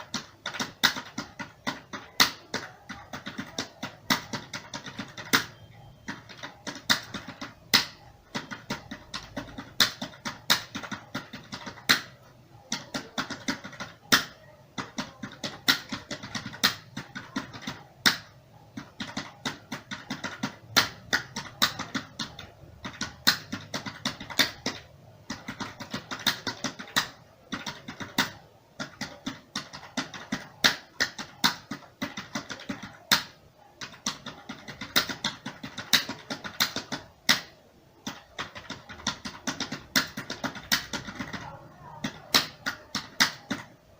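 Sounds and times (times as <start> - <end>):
keyboard typing: 0.0 - 43.9.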